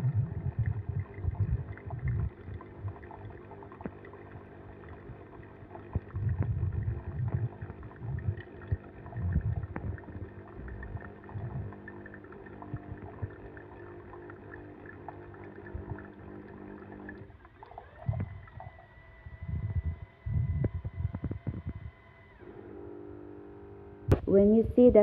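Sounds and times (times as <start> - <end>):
water gurgling: 0.0 - 23.6
coffee machine pump humming: 0.0 - 25.0.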